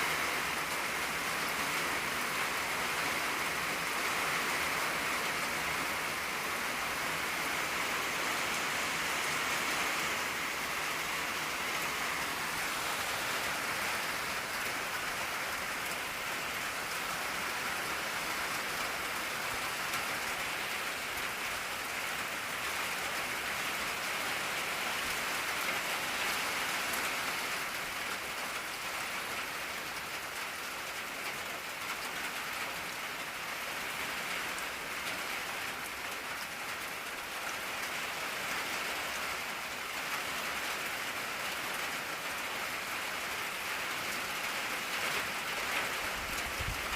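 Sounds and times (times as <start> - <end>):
rain on a tin roof: 0.0 - 46.9.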